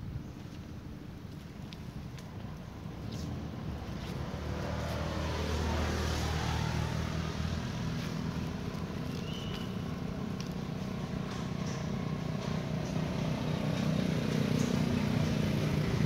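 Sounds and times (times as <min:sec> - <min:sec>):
vehicle passing by: 0:02.4 - 0:16.0.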